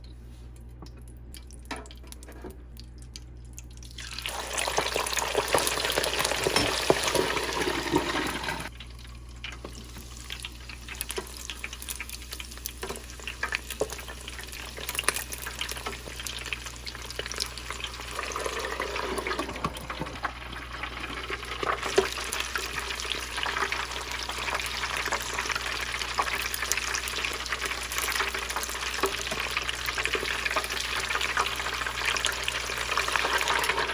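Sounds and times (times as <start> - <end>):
chicken skins sizzling in fat: 3.8 - 33.9.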